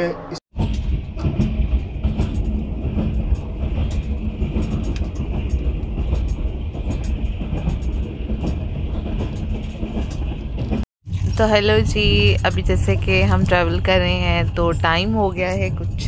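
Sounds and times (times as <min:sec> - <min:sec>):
train rumbling: 0:00.0 - 0:16.0
wheels clicking on rails: 0:00.6 - 0:16.0.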